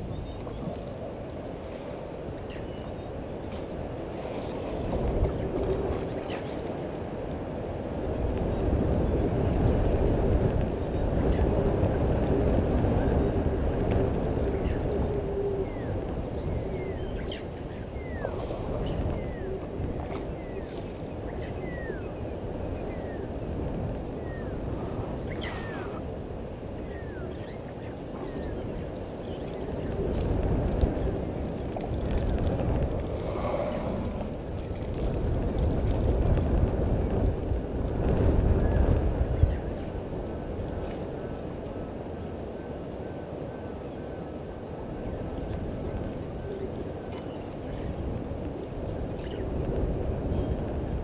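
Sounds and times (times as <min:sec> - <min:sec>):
high insect chirp: 0:00.0 - 0:51.0.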